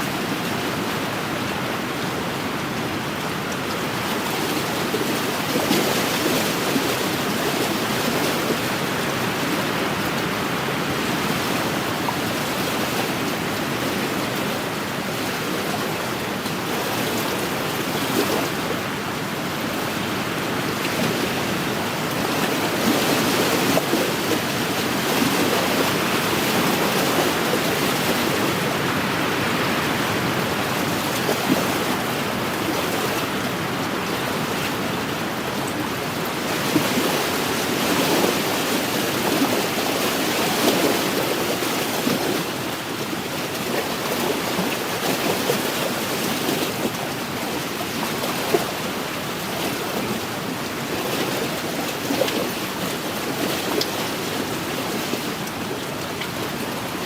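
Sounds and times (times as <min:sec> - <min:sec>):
waves slapping: 0:00.0 - 0:57.0
waves washing on shore: 0:00.0 - 0:57.0
small water splashes: 0:02.8 - 0:57.0.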